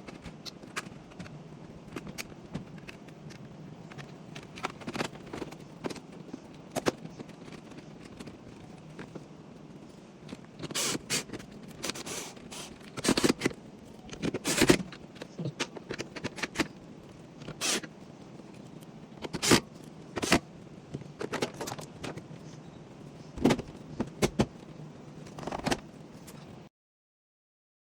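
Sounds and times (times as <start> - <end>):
parts scraping and clicking: 0.0 - 9.3, 9.9 - 17.9, 18.5 - 22.6, 23.2 - 26.5
faint steady hum: 0.0 - 26.7.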